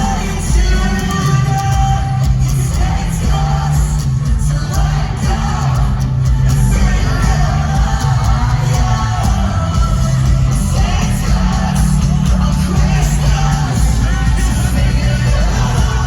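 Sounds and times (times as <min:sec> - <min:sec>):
heavy bass: 0:00.0 - 0:16.0
live band music: 0:00.0 - 0:16.0
person singing: 0:00.0 - 0:16.0.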